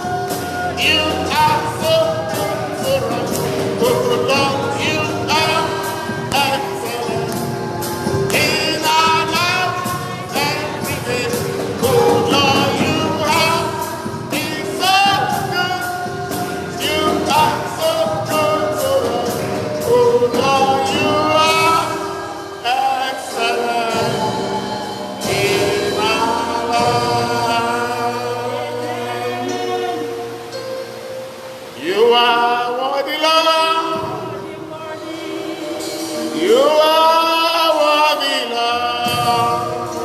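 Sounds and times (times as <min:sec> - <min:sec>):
gospel singing with accompaniment: 0:00.0 - 0:40.0.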